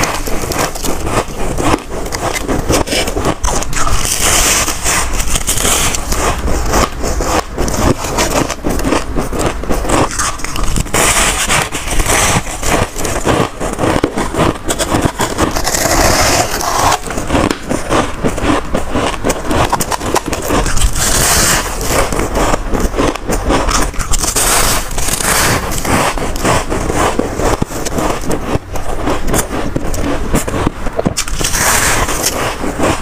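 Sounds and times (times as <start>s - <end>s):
crunching of bitten frost: 0.0s - 33.0s.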